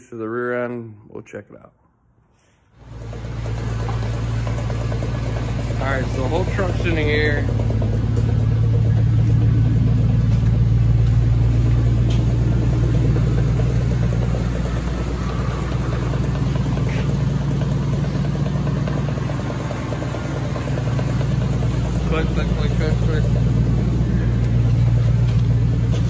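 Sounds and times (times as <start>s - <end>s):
engine running with low hum: 2.6s - 26.0s
drivetrain clicking: 2.9s - 26.0s.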